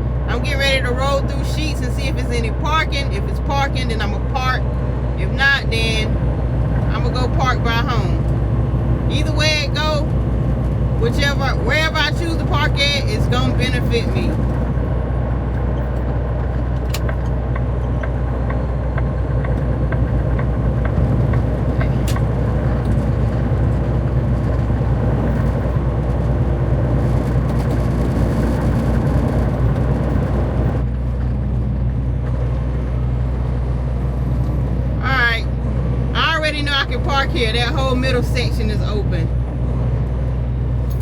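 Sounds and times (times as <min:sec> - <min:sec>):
diesel truck engine droning: 0:00.0 - 0:41.0.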